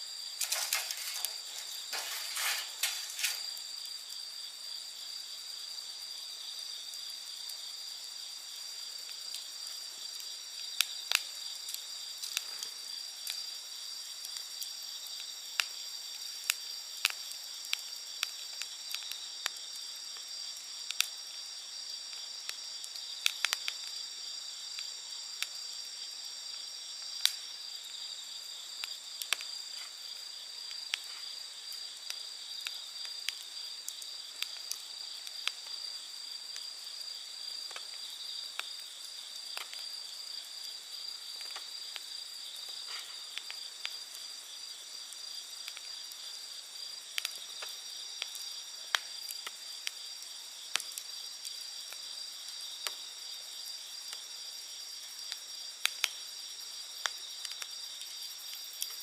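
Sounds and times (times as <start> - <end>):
campfire crackling and popping: 0.0 - 59.0
insects chirping: 0.0 - 59.0.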